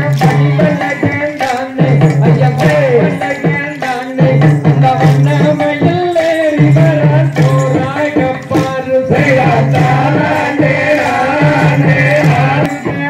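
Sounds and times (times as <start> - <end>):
person singing: 0.0 - 13.0
rhythmic percussion beat: 0.0 - 13.0.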